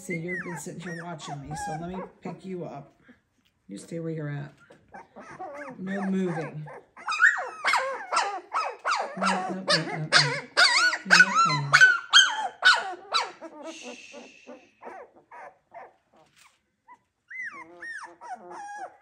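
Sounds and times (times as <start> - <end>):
puppies squealing and yelping: 0.0 - 2.4, 4.6 - 19.0.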